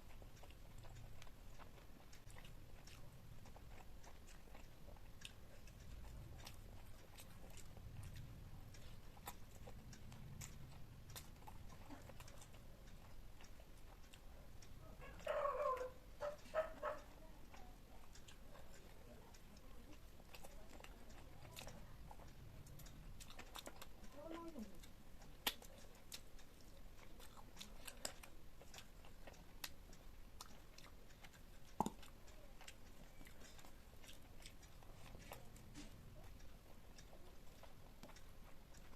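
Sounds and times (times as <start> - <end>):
mouth clicks: 0.0 - 38.9
person chewing food: 0.0 - 38.9.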